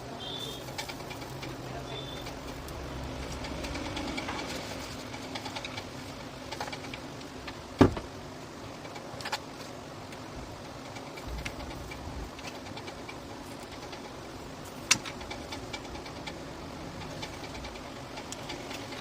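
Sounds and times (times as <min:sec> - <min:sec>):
hand tools clicking and tapping: 0:00.0 - 0:08.0, 0:08.6 - 0:19.0
low background noise: 0:00.0 - 0:19.0.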